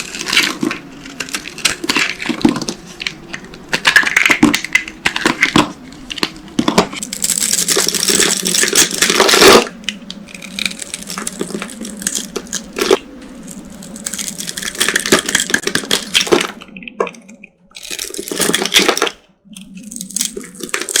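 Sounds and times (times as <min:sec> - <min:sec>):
soap crunching and crackling: 0:00.0 - 0:21.0.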